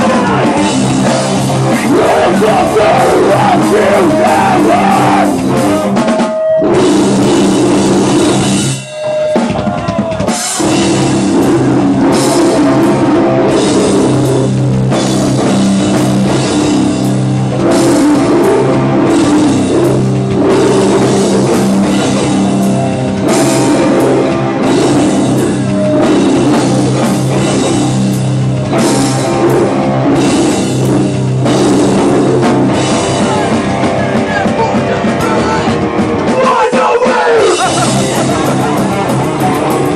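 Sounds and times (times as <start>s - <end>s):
drum kit and cymbals: 0.0s - 39.9s
hardcore band playing live: 0.0s - 39.9s.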